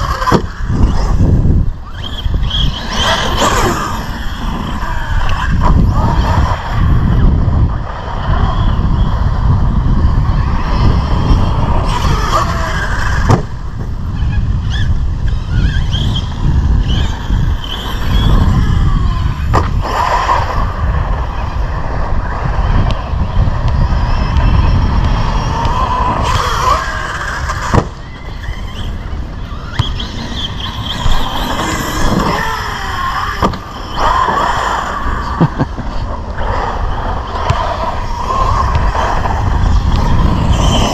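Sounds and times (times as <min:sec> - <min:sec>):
rc truck electric motor whining: 0:00.0 - 0:40.9.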